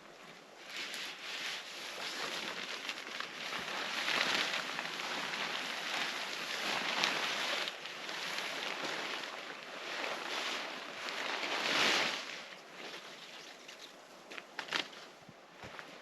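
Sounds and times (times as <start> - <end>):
wind blowing through trees: 0.0 - 16.0.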